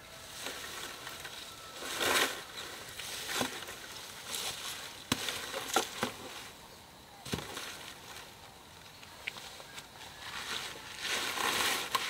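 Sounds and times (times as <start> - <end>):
leafy fronds rustling: 0.0 - 12.0.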